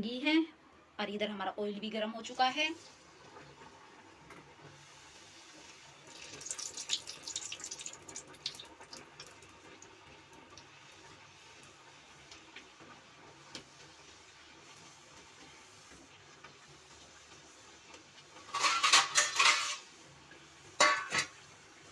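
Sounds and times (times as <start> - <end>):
food deep-frying in hot oil: 2.2 - 21.9.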